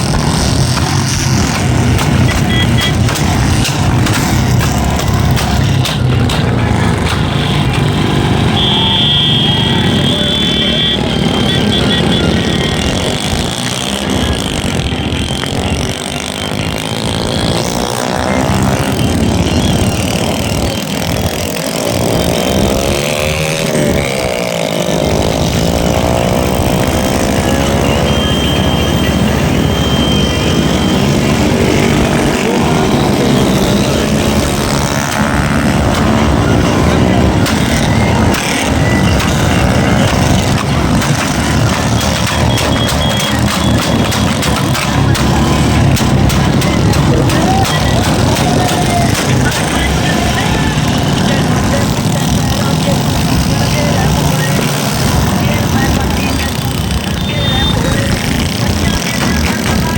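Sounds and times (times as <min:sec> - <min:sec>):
motorcycles: 0:00.0 - 0:59.9
vehicle engines running: 0:00.0 - 0:59.9.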